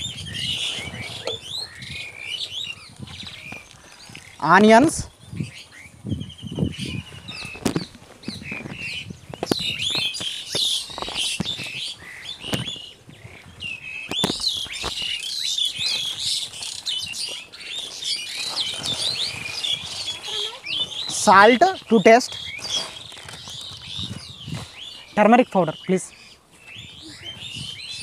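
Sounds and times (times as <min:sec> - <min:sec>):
birds chirping and calling: 0:00.0 - 0:28.0.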